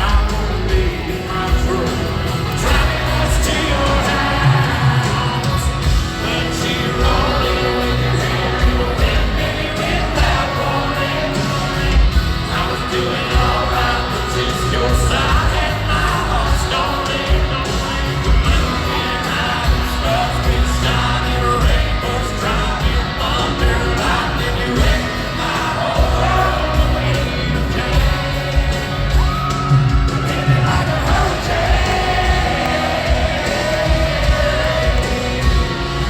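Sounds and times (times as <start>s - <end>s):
crowd yelling and whooping: 0.0s - 36.0s
lead singer singing: 0.0s - 36.0s
live country band: 0.0s - 36.0s.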